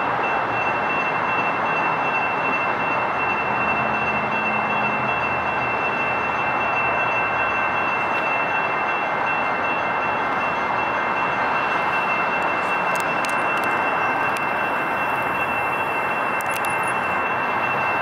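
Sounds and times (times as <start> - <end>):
railroad crossing bells ringing: 0.0 - 18.0.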